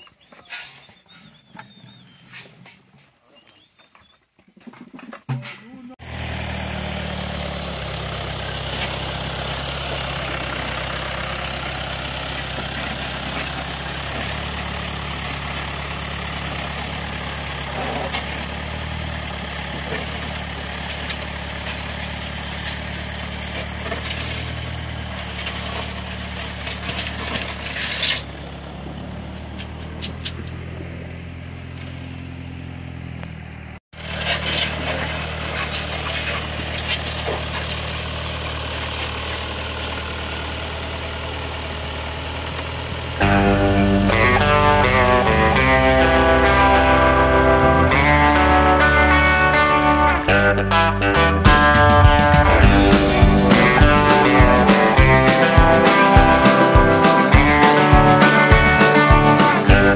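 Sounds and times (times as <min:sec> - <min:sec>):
tractor engine running: 0:06.0 - 0:59.9.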